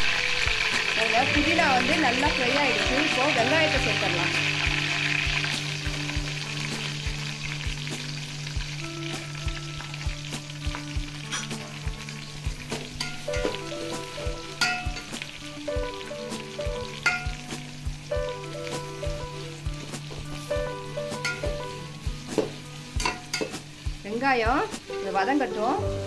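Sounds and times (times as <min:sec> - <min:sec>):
onions sizzling in hot oil: 0:00.0 - 0:26.0.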